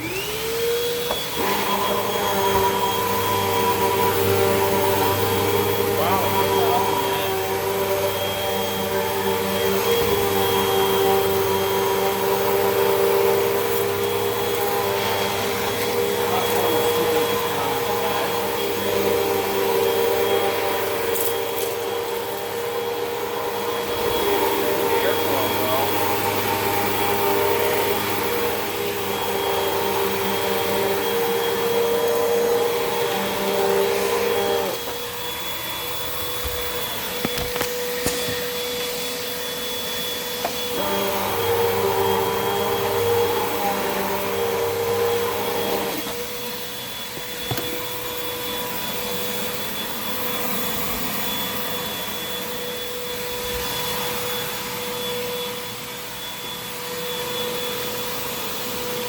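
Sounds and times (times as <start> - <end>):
upright vacuum cleaner running: 0.0 - 59.0.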